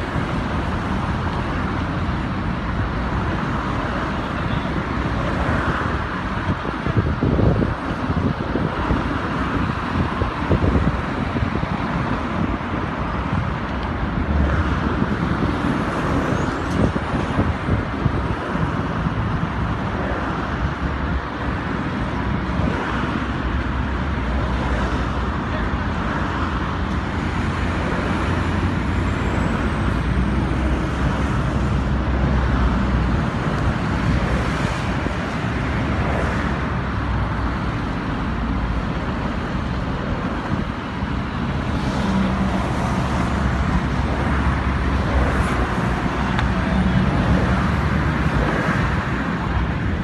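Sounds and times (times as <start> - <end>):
traffic passing: 0.0 - 50.0.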